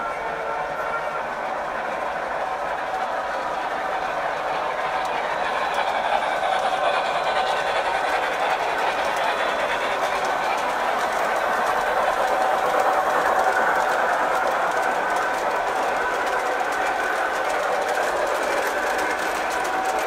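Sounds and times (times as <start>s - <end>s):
model train motor whirring: 1.7s - 20.0s.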